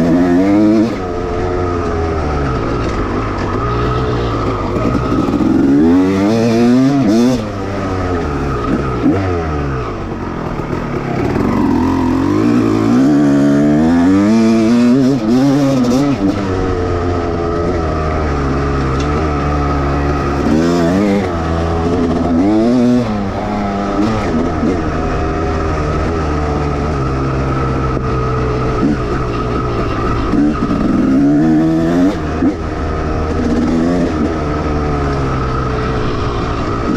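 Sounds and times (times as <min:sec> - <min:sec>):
motocross engine revving: 0:00.0 - 0:36.9.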